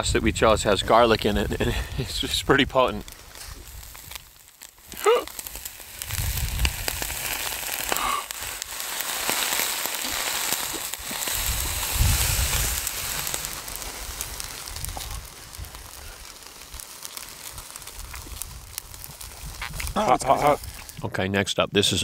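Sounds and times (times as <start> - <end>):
meat and fries sizzling on grill: 0.0 - 21.0.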